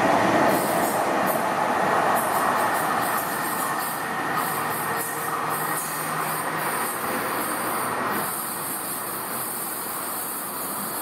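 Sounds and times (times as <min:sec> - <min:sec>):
light-rail train pulling away: 0:00.0 - 0:11.0.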